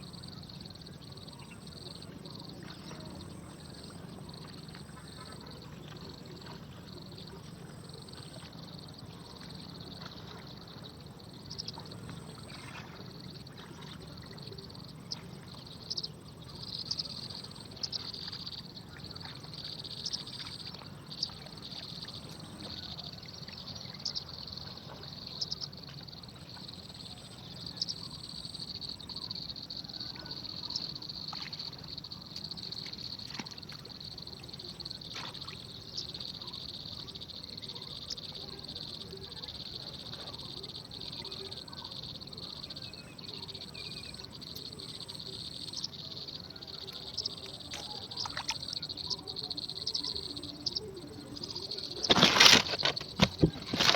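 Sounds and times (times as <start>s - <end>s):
insect chirps and clicks: 0.0s - 53.9s.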